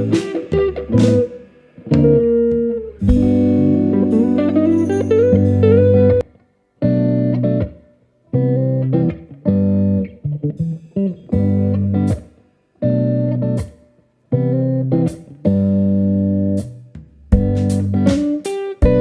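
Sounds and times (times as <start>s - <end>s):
plucked guitar chords: 0.0s - 19.0s.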